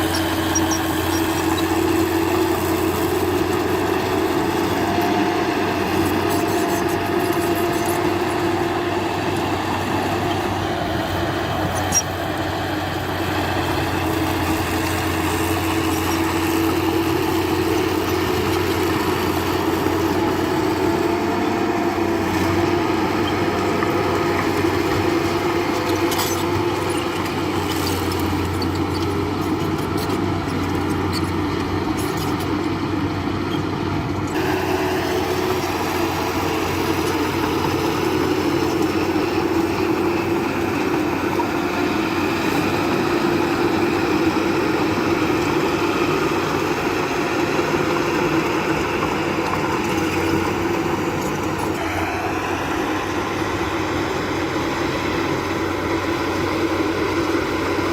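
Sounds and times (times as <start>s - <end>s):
diesel machinery engine running: 0.0s - 57.9s.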